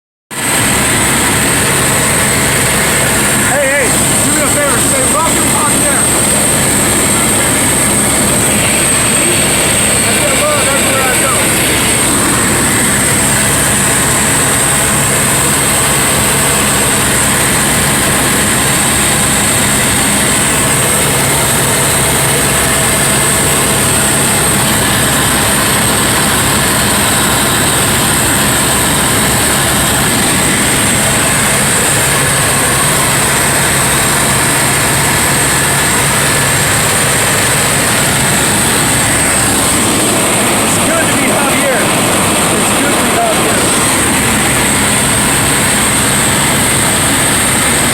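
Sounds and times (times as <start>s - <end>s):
helicopter engine and rotor drone: 0.3s - 47.9s.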